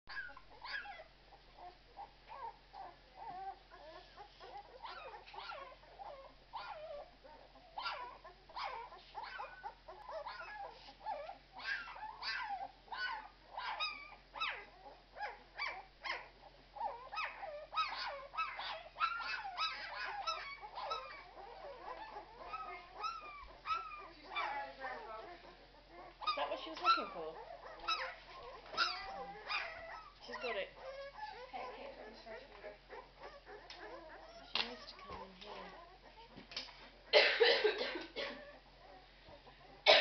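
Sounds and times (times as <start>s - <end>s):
puppies squeaking: 0.1s - 37.2s, 38.1s - 39.8s.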